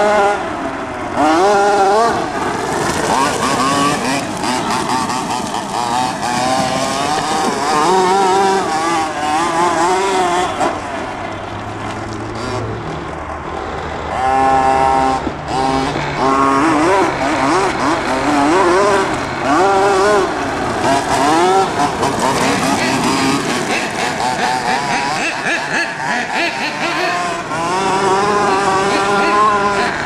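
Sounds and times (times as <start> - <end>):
small two-stroke engine revving: 0.0 - 30.0.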